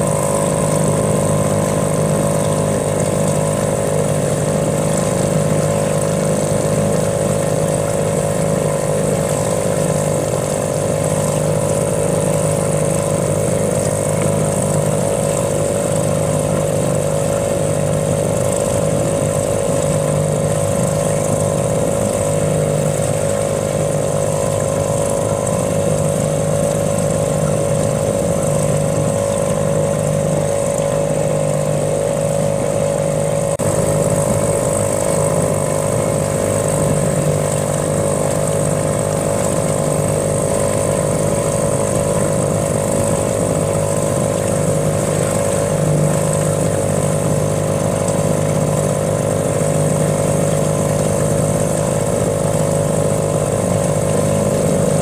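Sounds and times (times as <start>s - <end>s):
small motor droning: 0.0s - 55.0s.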